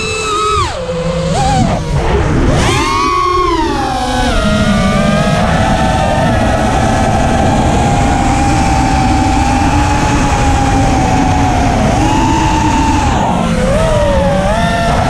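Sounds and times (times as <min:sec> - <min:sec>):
drone motors whining: 0:00.0 - 0:15.0
rushing wind and prop noise: 0:00.0 - 0:15.0.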